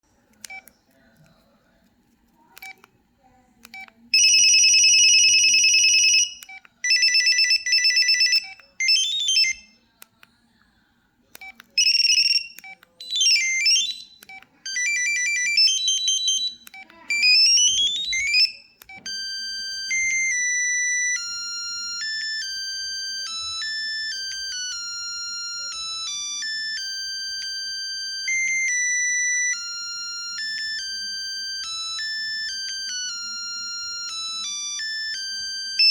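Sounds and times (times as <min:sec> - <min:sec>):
electronic ringtone melody: 0:04.1 - 0:09.8, 0:11.8 - 0:35.9
electronic beeping ringtones: 0:04.2 - 0:09.8, 0:11.8 - 0:35.9.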